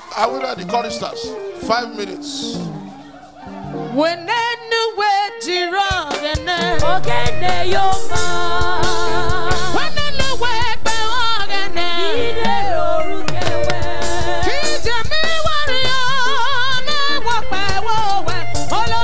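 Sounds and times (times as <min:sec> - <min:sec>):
church band with drums and bass: 0:00.0 - 0:04.0, 0:05.8 - 0:19.0
people singing gospel: 0:00.2 - 0:05.4, 0:06.2 - 0:19.0.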